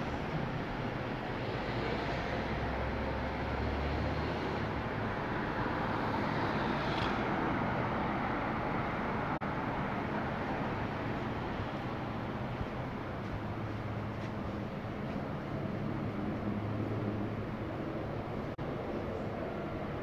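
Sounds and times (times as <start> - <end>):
low engine hum: 0.0 - 20.0
street traffic passing: 0.0 - 20.0.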